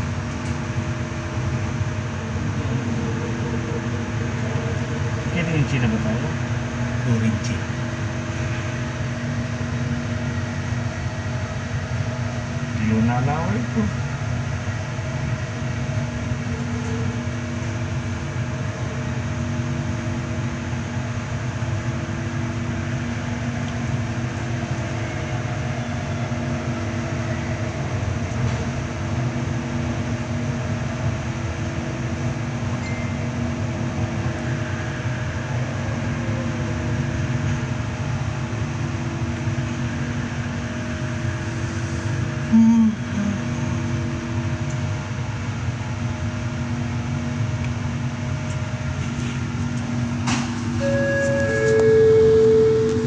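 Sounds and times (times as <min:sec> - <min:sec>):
train wheels rumbling on rails: 0:00.0 - 0:42.5, 0:43.4 - 0:53.0
low motor hum: 0:00.0 - 0:53.0.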